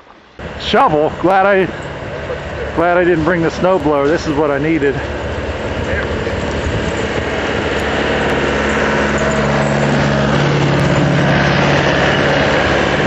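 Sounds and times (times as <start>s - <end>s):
diesel engine running: 0.2s - 13.0s.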